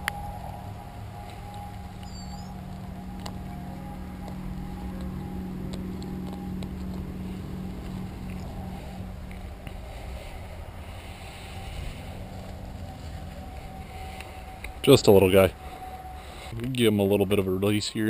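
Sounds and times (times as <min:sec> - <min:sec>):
engine humming: 0:00.0 - 0:18.0
low rumble: 0:00.0 - 0:18.0.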